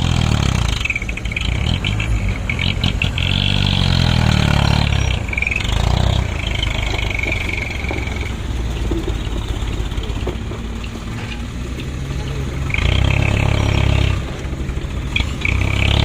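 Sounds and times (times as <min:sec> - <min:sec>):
heavy diesel engine revving: 0:00.0 - 0:16.0
high squealing and scraping: 0:00.0 - 0:16.0.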